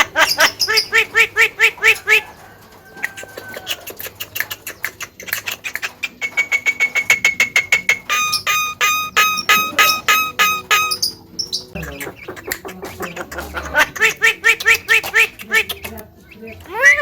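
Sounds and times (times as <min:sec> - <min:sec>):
bird chattering and whistling: 0:00.0 - 0:02.4, 0:03.0 - 0:17.0.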